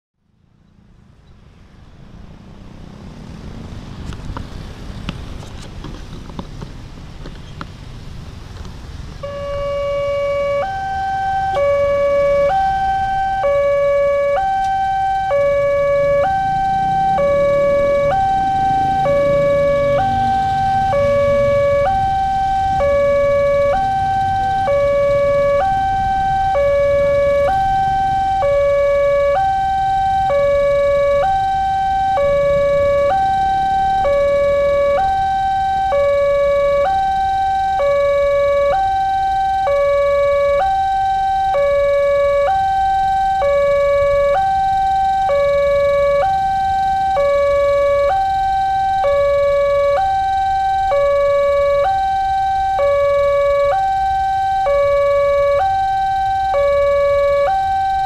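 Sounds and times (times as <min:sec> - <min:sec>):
level crossing two-tone alarm: 0:09.2 - 0:58.0.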